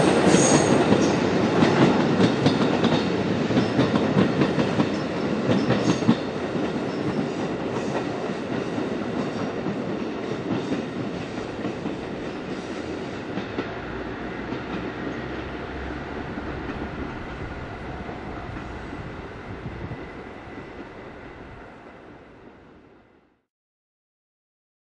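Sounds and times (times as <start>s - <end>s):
diesel railcar running: 0.0s - 23.0s.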